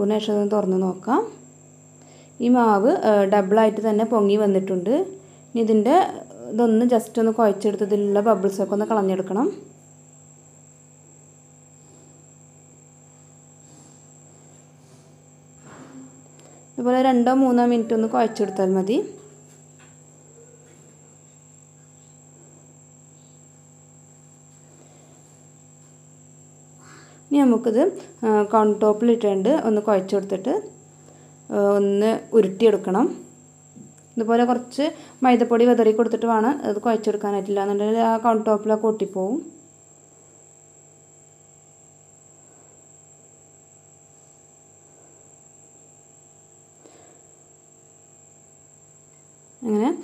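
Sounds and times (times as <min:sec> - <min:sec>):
background hum: 0:00.0 - 0:50.0.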